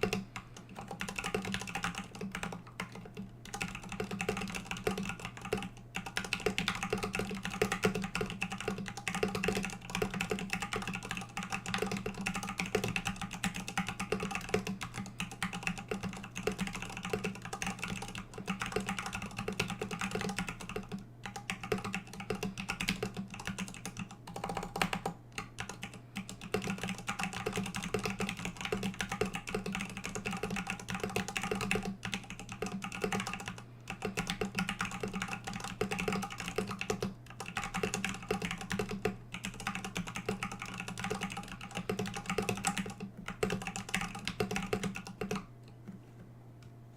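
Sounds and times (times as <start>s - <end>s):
typing on mechanical keyboard: 0.0s - 46.0s.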